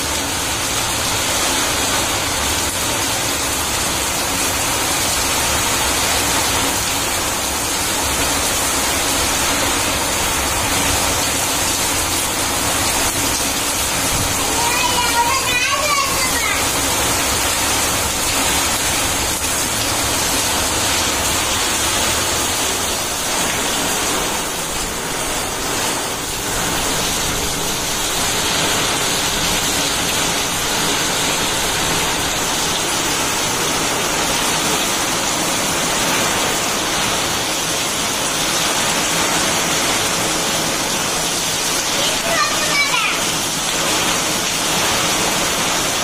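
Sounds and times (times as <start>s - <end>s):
heavy rain on concrete: 0.0s - 46.0s.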